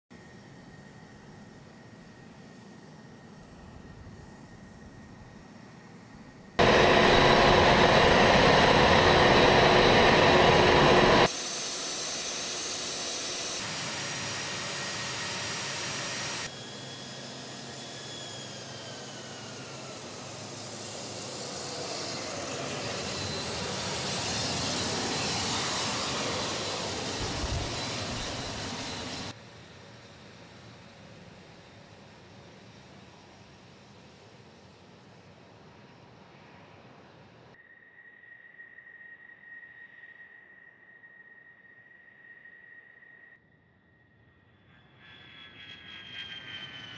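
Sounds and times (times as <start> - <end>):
jet engines with high whine: 0.1 - 46.9.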